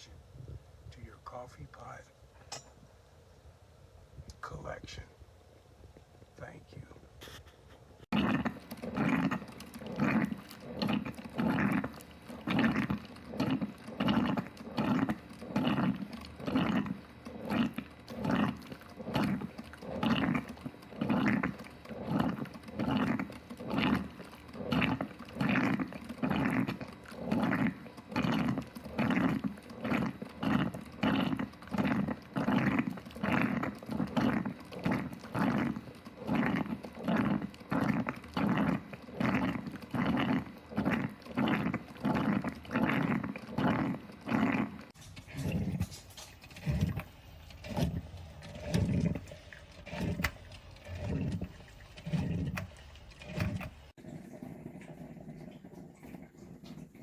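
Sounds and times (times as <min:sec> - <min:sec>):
coffee percolator gurgling: 0:08.1 - 0:57.0.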